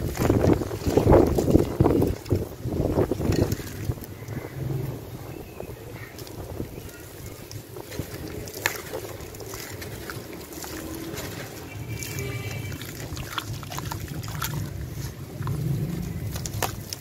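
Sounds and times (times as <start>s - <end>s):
small crackles: 0.0s - 4.5s, 5.9s - 17.0s
gritty crumbling: 0.0s - 5.0s, 5.9s - 17.0s
steady low rumble: 0.0s - 17.0s
water splashing and dripping: 0.0s - 17.0s.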